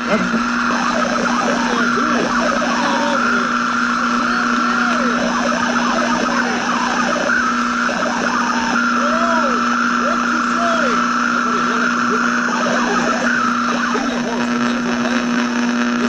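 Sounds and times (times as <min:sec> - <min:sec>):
constant hum-like tone: 0:00.0 - 0:16.0
radio static hiss: 0:00.0 - 0:16.0.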